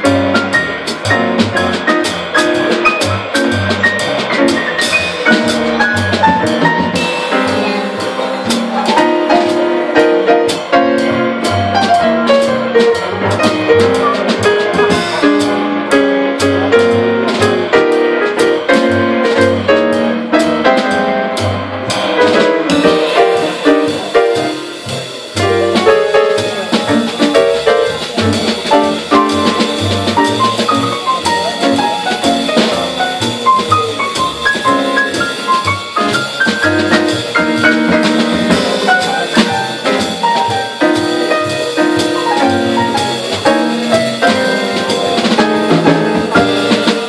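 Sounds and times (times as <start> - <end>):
drums on cymbals: 0.0 - 47.0
piano line: 0.0 - 47.0
walking double bass: 0.0 - 47.0.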